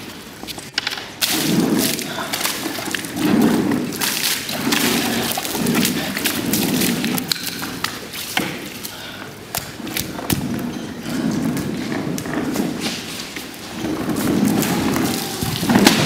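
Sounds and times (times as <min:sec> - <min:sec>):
aquarium platform thumping and rumbling: 0:01.1 - 0:08.7, 0:09.6 - 0:16.0.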